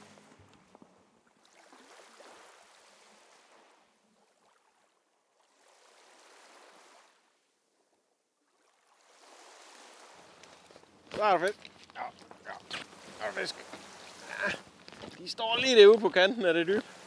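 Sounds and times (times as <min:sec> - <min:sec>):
small sea waves lapping: 0:00.0 - 0:17.0.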